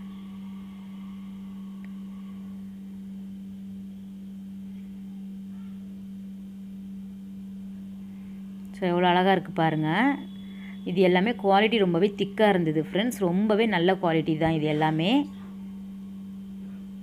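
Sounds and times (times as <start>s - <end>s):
low-pitched hum: 0.0s - 17.0s.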